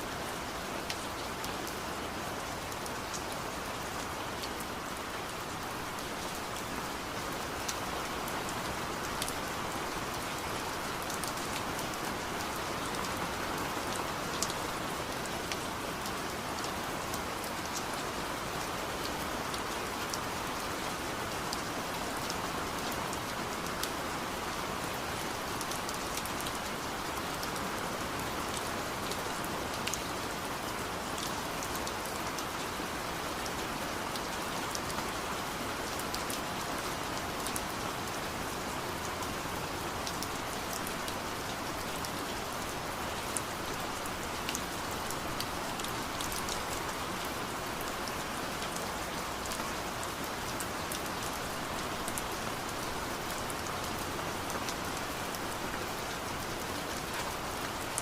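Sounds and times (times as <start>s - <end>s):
steady rain falling: 0.0s - 58.0s
raindrops ticking on a surface: 0.2s - 58.0s.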